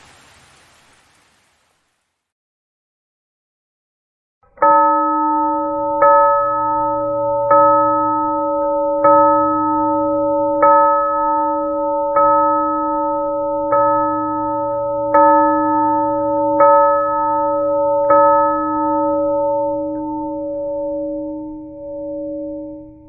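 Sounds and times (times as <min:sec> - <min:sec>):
church bell ringing: 0:04.5 - 0:23.0.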